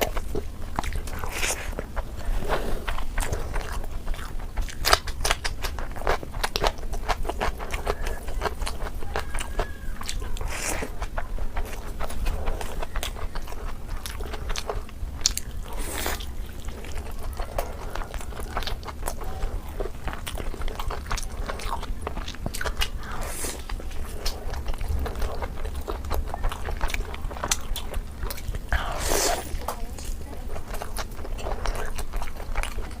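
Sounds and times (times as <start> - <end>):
biting and chewing food: 0.0 - 33.0.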